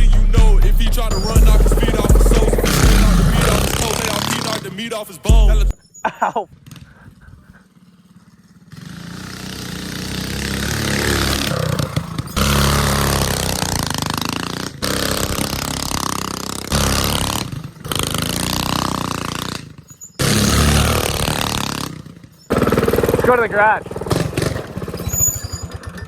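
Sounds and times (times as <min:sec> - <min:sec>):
mini bike engine revving: 0:00.0 - 0:26.0.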